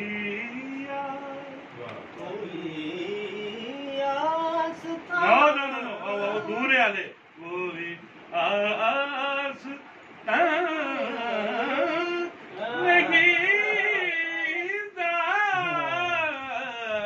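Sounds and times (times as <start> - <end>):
man singing: 0.0 - 6.7, 7.4 - 17.0.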